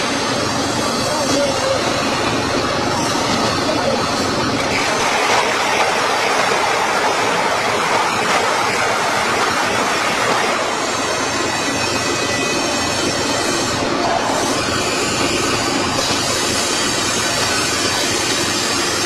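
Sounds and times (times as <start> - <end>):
heavy factory machinery noise: 0.0 - 19.0.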